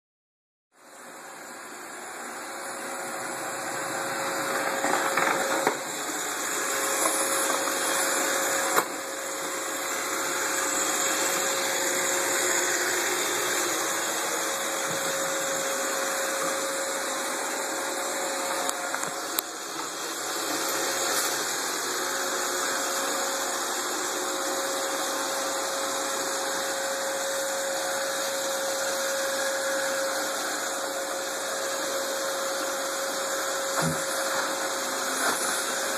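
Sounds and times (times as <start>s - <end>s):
robot vacuum running: 1.1s - 35.9s.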